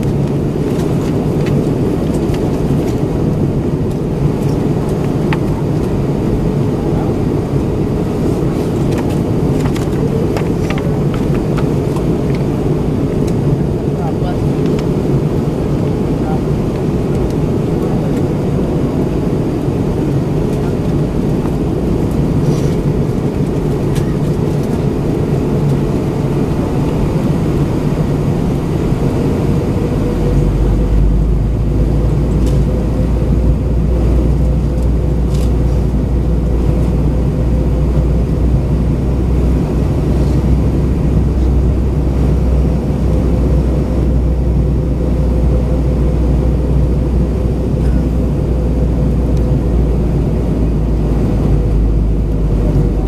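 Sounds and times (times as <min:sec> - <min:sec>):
airplane cabin roar: 0:00.0 - 0:53.0
constant hum: 0:00.0 - 0:53.0
deep low rumble: 0:00.0 - 0:53.0.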